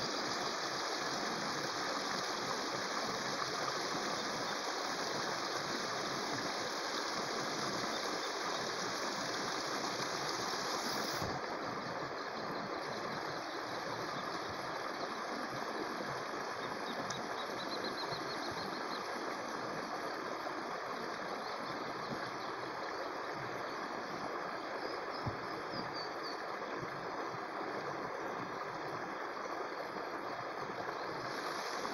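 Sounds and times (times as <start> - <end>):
small waterfall splashing: 0.0 - 31.9.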